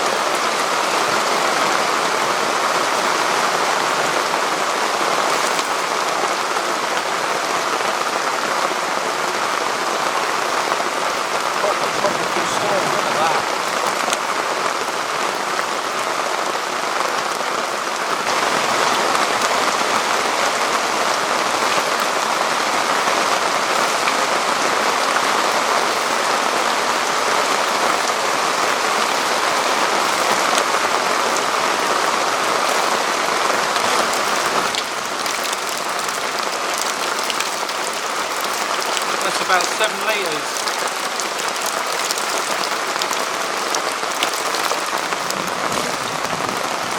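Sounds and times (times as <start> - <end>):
heavy rain on a tarp: 0.0 - 46.9.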